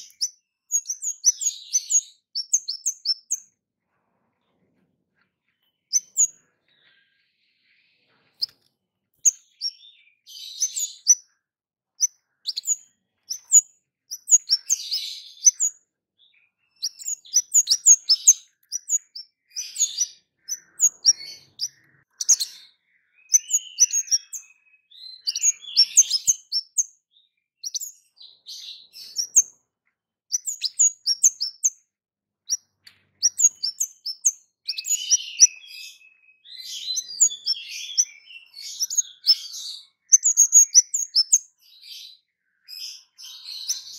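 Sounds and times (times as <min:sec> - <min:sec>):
songbird chirping and warbling: 0:00.0 - 0:43.9.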